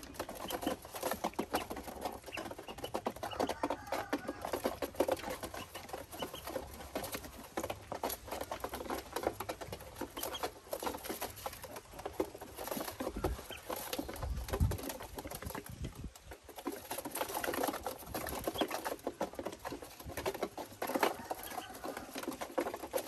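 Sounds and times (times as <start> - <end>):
ducklings scrabbling and tapping: 0.0 - 23.0.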